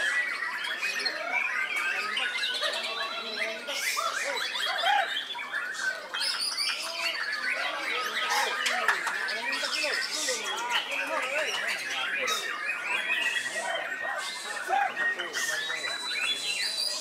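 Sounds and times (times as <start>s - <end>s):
birds singing in chorus: 0.0s - 17.0s.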